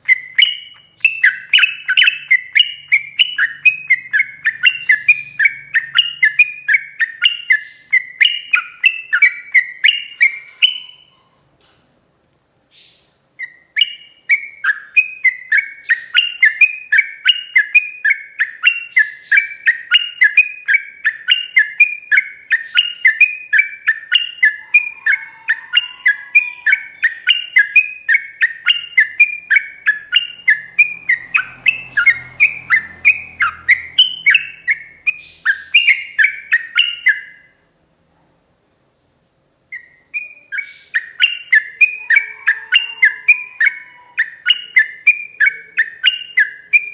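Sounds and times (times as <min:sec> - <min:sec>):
bulbul singing: 0:00.0 - 0:11.2, 0:12.8 - 0:37.6, 0:39.7 - 0:46.9.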